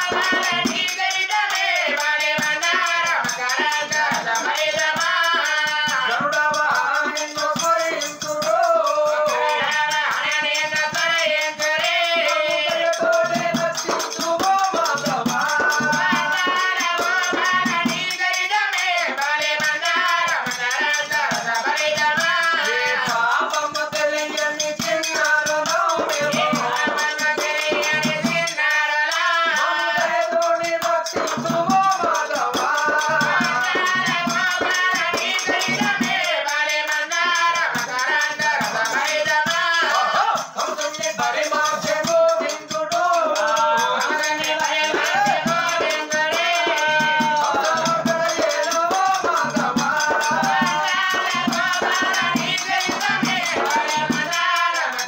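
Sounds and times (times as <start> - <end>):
folk singers singing: 0.0 - 55.0
rattling jingling percussion: 0.0 - 55.0.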